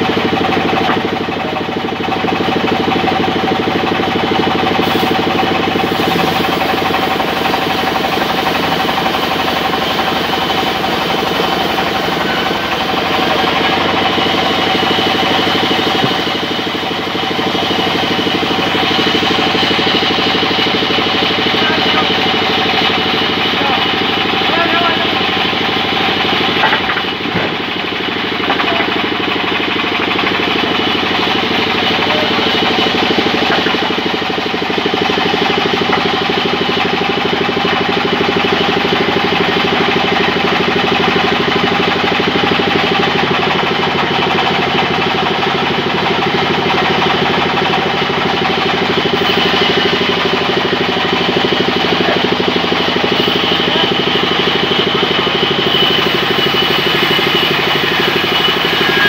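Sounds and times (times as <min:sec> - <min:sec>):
sawmill mechanical drone: 0:00.0 - 0:59.0.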